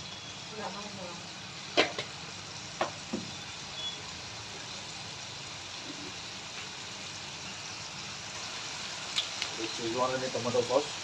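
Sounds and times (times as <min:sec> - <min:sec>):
food hissing in a pan: 0:00.0 - 0:11.0.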